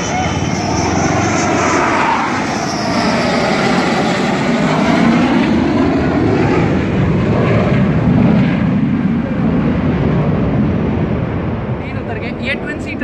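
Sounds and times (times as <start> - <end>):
jet roaring overhead: 0.0 - 13.0.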